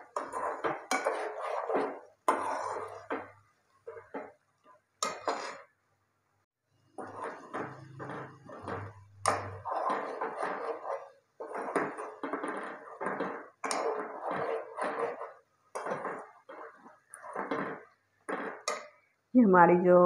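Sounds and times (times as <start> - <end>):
spoon clacking against pot: 0.0 - 5.7, 6.9 - 19.1
spoon scraping in a pot: 0.0 - 5.8, 6.8 - 19.2.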